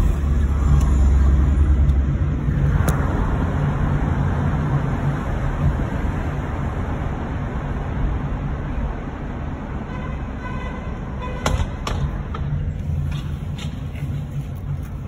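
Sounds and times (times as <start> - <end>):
road and traffic rumble: 0.0 - 15.0.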